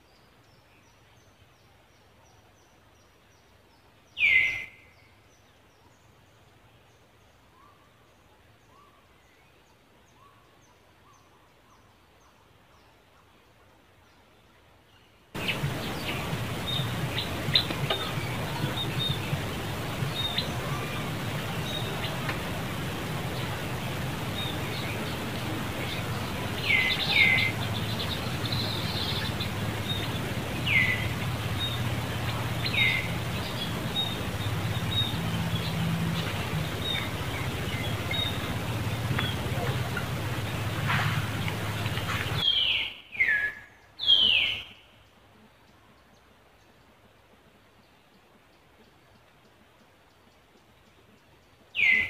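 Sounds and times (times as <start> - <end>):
steady background hiss: 0.0 - 52.0.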